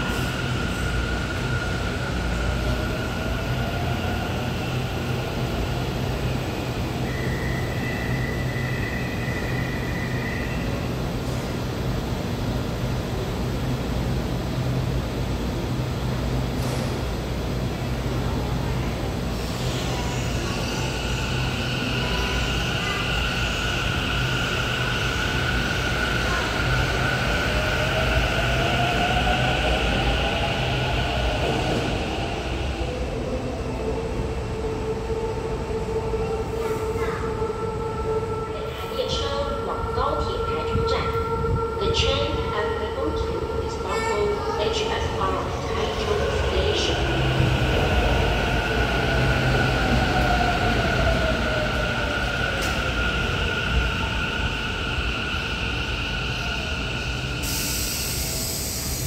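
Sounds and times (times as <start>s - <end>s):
electric train whine: 0.0s - 59.0s.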